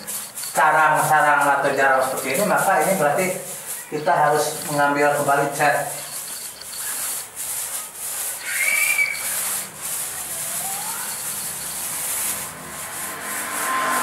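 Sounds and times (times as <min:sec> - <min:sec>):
paint roller hissing on wall: 0:00.0 - 0:14.0
paint roller squeak: 0:00.0 - 0:14.0.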